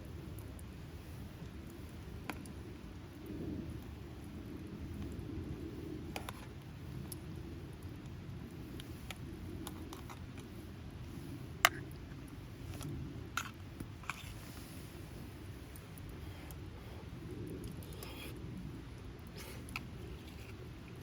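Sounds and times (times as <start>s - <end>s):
burning wood popping: 0.0s - 21.0s
campfire crackling: 0.0s - 21.0s.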